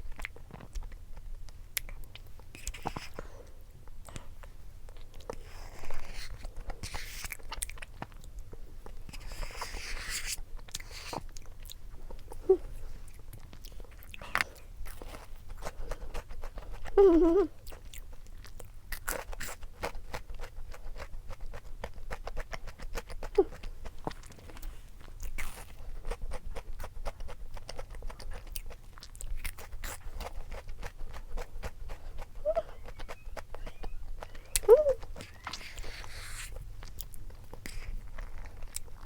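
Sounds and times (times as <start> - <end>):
person chewing and biting food: 3.9 - 17.0, 17.6 - 39.0.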